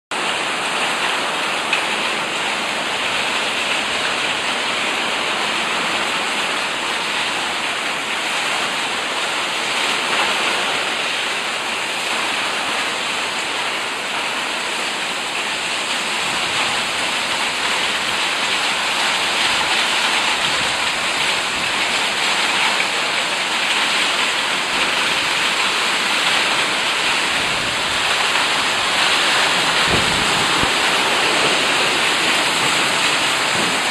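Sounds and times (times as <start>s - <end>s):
hail and heavy rain falling: 0.2s - 33.9s.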